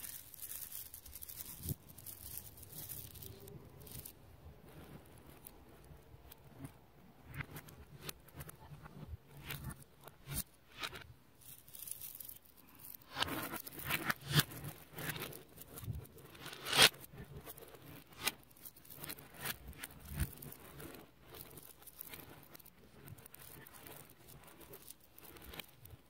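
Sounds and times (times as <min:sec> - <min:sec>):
magnet balls clicking and crackling: 0:00.0 - 0:26.0.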